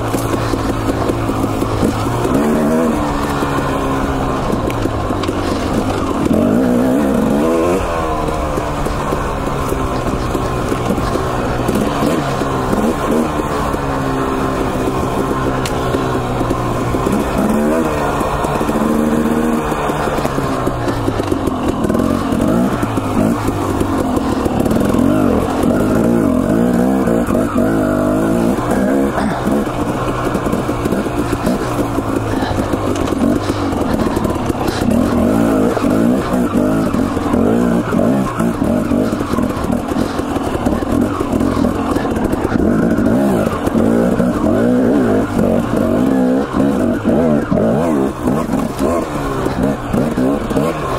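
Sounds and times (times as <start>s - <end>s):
two-stroke dirt bike engine: 0.0s - 50.9s.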